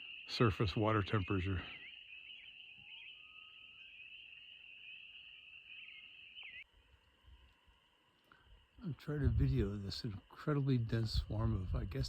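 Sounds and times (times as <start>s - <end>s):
chorus of frogs peeping: 0.0s - 11.5s.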